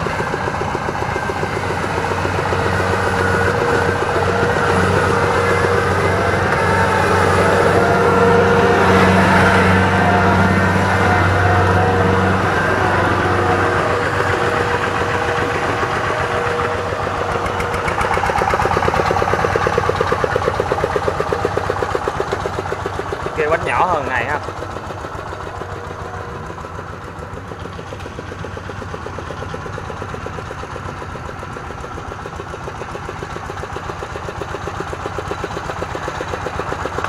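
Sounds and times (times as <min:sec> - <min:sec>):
combine harvester diesel drone: 0:00.0 - 0:37.0
tractor engine chugging: 0:00.0 - 0:37.0.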